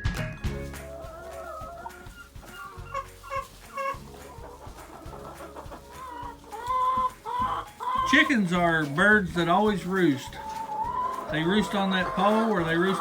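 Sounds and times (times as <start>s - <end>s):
chickens clucking: 0.5s - 13.0s.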